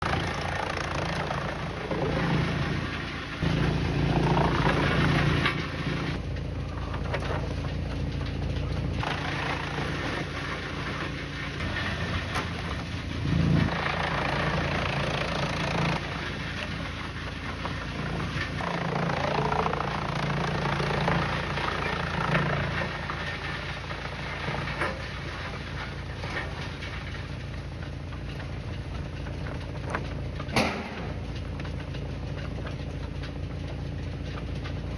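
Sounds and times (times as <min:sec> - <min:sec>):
heavy machinery engine running: 0:00.0 - 0:34.9.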